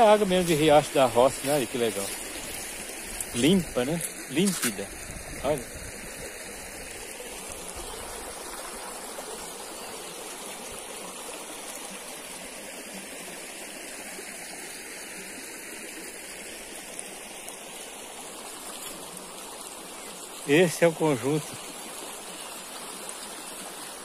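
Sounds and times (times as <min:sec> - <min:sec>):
creek trickling and babbling: 0:00.0 - 0:24.0.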